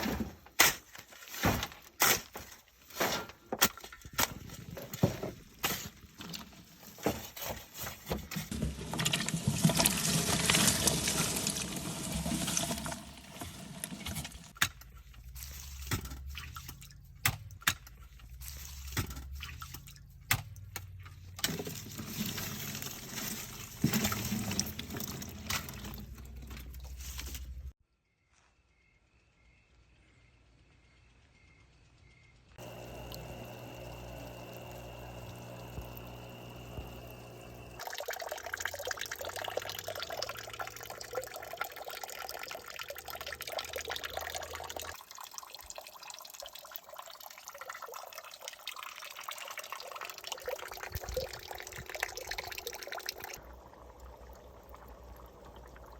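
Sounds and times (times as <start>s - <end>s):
water pouring and splashing: 4.1s - 27.8s, 32.6s - 55.9s.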